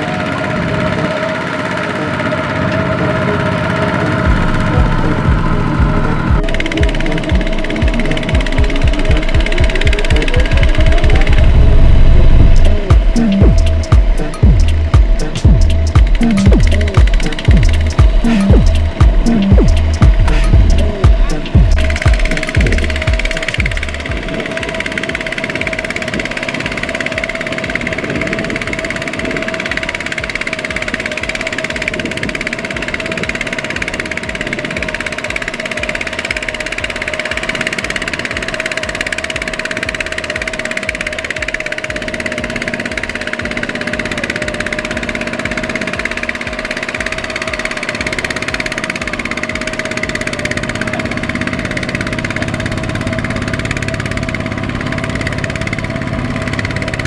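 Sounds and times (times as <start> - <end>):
diesel engine chugging: 0.0 - 57.0.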